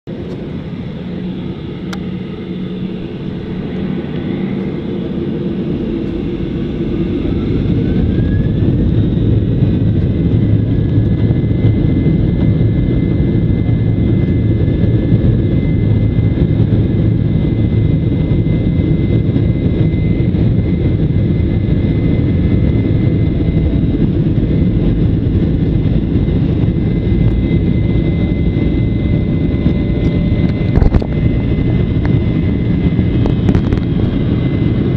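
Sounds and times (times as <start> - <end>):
jet engines spooling up: 0.1 - 34.9.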